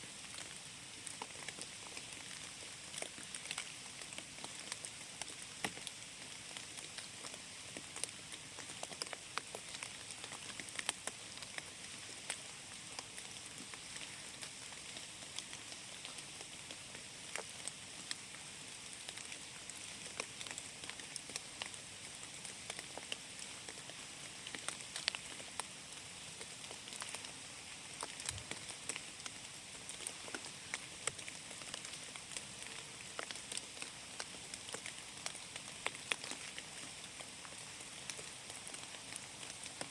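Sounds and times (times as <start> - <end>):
steady rain patter: 0.0 - 39.9
raindrops ticking on leaves: 0.1 - 39.9.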